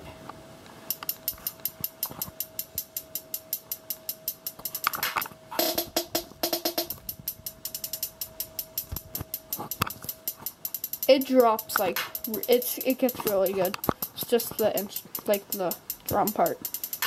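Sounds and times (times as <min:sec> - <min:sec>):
fast hi-hat ticks: 0:00.9 - 0:17.0
repeated pitched notes: 0:00.9 - 0:17.0
hip-hop beat: 0:01.2 - 0:17.0.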